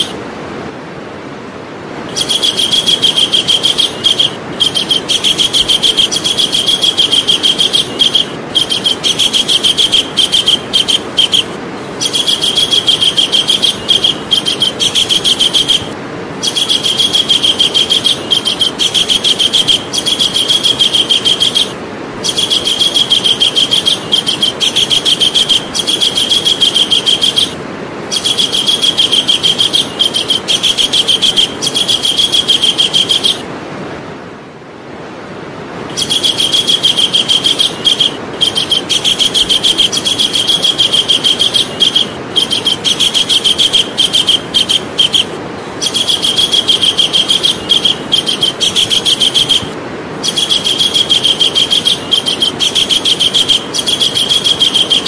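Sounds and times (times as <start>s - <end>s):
kingfisher calling: 0.0s - 0.2s, 2.1s - 33.5s, 35.9s - 55.0s.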